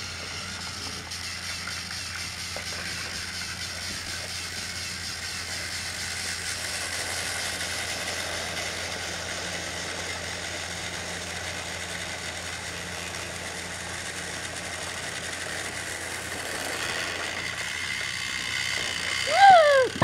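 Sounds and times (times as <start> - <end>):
toy train motor whirring: 0.0 - 20.0.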